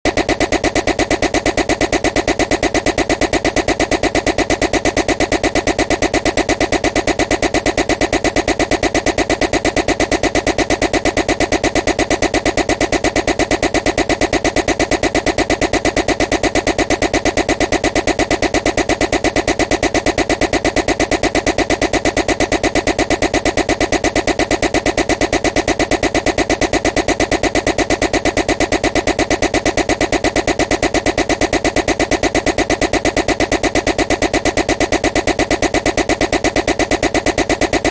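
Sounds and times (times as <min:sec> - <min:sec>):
loud rapidly pulsing noise: 0:00.1 - 0:37.9.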